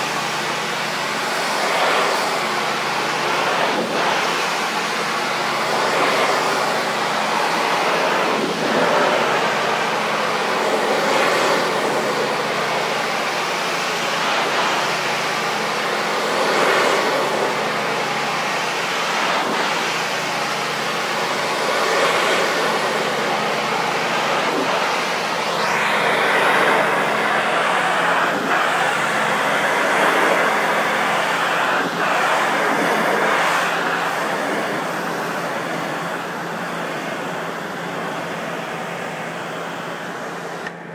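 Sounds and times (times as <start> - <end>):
high-pressure water jet hissing: 0.0 - 40.7
pressure washer engine hum: 0.0 - 40.9.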